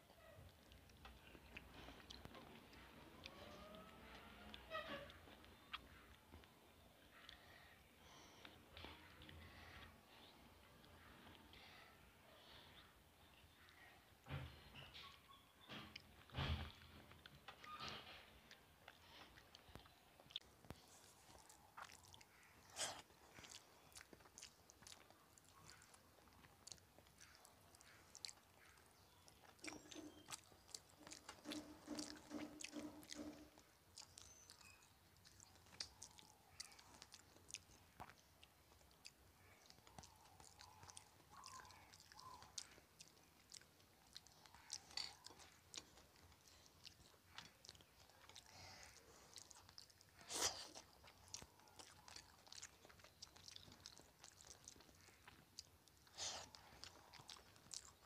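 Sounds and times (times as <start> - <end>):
quiet close-up chewing: 0.0 - 58.0.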